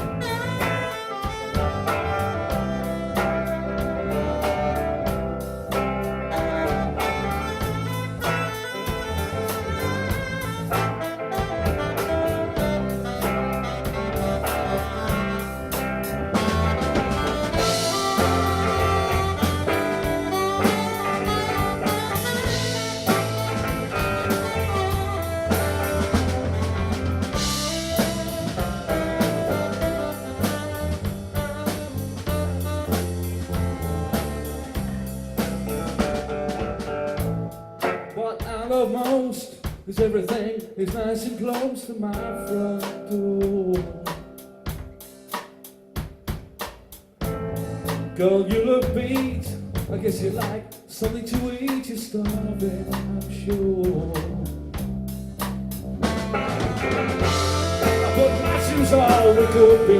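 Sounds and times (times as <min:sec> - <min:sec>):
drum kit steady beat: 0:00.0 - 0:59.9
live jazz-blues band playing: 0:00.0 - 0:59.9.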